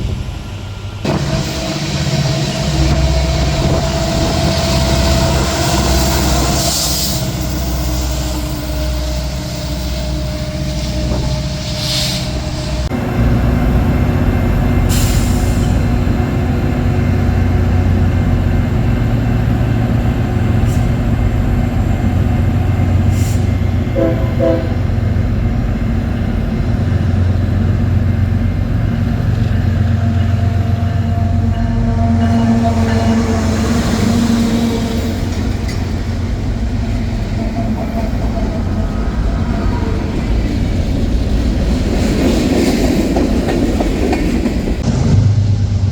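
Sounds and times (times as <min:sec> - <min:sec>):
train rumbling on track: 0:00.0 - 0:45.9.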